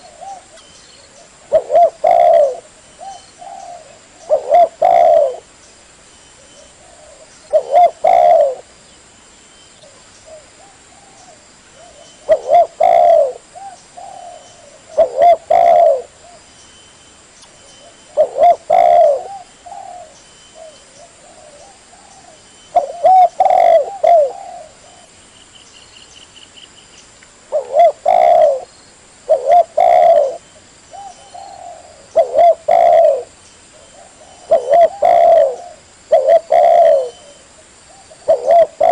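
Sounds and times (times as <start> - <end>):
dove cooing: 0.0 - 5.5, 6.4 - 8.7, 9.8 - 16.4, 17.8 - 25.2, 27.5 - 28.7, 29.3 - 38.9.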